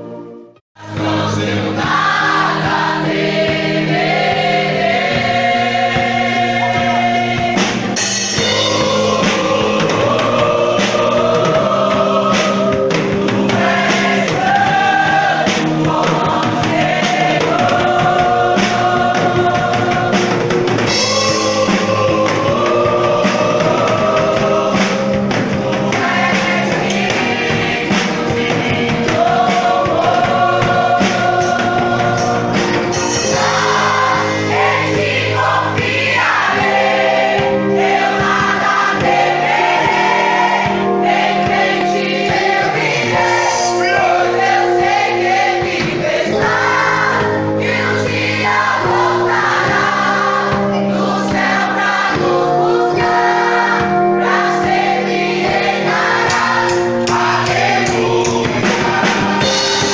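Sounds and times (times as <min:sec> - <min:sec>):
gospel choir singing with music: 0:00.0 - 0:59.9.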